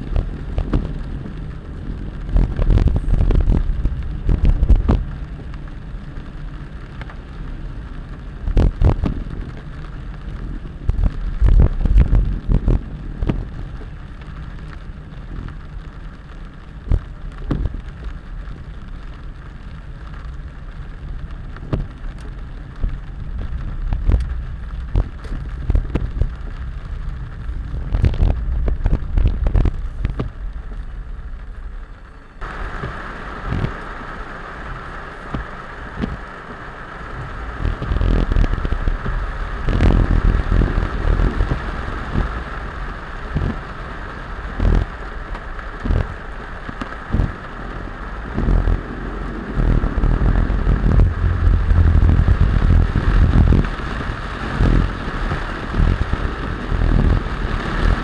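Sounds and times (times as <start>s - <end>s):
heavy rain: 0.0s - 58.0s
raindrop clicks: 0.0s - 58.0s
steady hiss: 0.0s - 58.0s
vehicle rumble: 0.0s - 58.0s.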